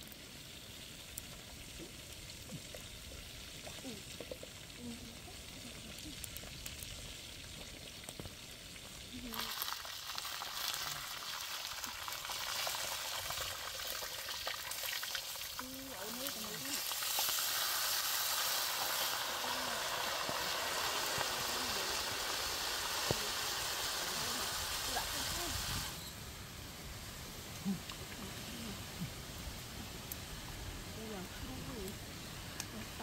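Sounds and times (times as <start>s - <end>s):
food sizzling in a wok: 0.0s - 33.0s.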